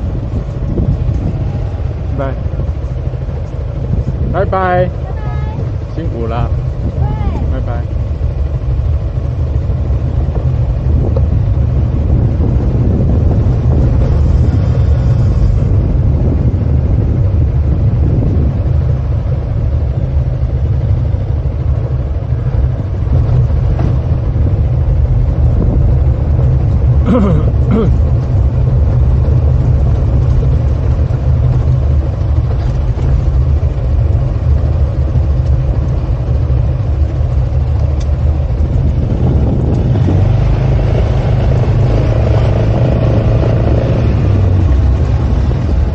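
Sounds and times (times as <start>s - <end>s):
scooter engine running: 0.0s - 45.9s
wind buffeting microphone: 0.0s - 45.9s.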